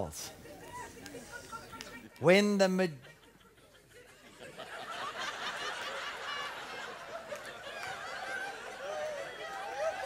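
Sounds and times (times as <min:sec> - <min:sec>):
congregation laughing: 0:00.4 - 0:10.0.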